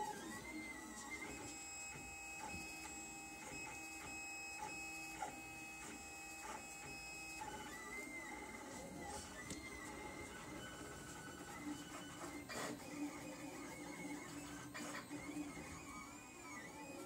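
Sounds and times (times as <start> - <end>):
printer stepper motors whining: 0.0 - 17.0.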